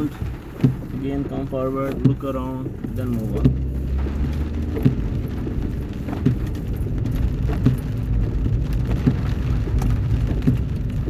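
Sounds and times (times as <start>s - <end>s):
car engine and road rumble: 0.0s - 11.0s
rain on car: 0.0s - 11.0s.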